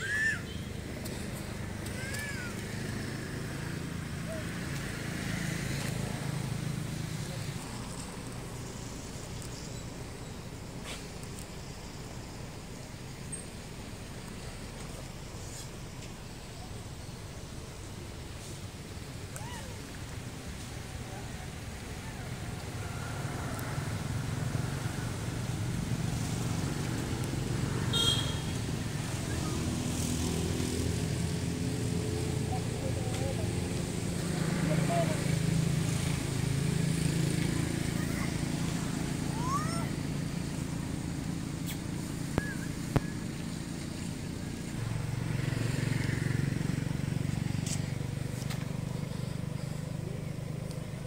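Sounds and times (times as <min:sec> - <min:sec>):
motor engine running: 0:00.6 - 0:51.0.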